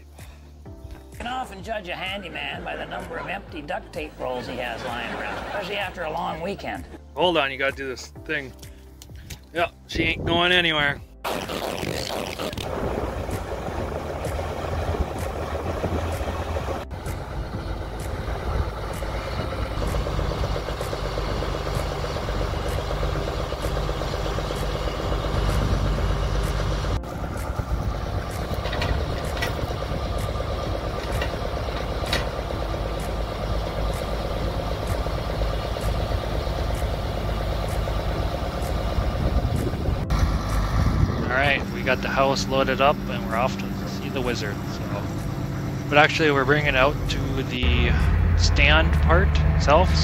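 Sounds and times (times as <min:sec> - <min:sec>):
tractor diesel engine running: 0:00.0 - 0:07.4, 0:12.6 - 0:50.0.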